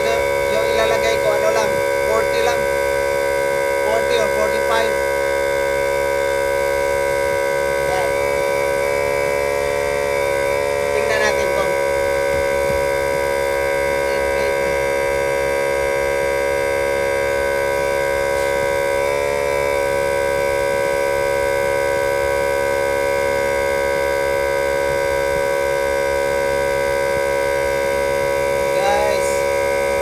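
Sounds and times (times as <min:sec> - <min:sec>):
air compressor motor whine: 0:00.0 - 0:30.0.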